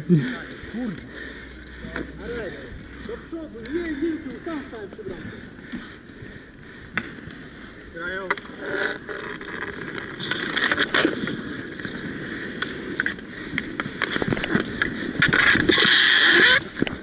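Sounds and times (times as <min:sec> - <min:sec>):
inline skate wheels rolling: 0:00.0 - 0:17.0.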